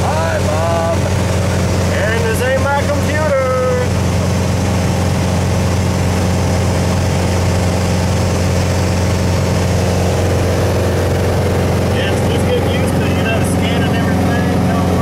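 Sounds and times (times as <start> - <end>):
airplane engine drone in cabin: 0.0 - 15.0.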